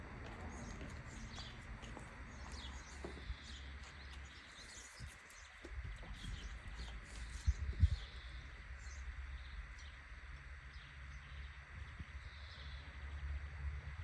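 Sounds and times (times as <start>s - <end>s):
steady low rumble: 0.0s - 14.0s
small birds chirping: 0.2s - 13.0s.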